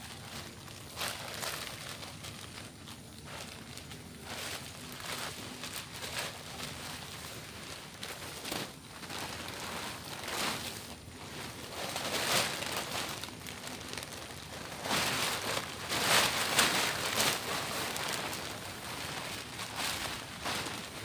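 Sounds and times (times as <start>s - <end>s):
plastic tarp crinkling: 0.0s - 21.0s.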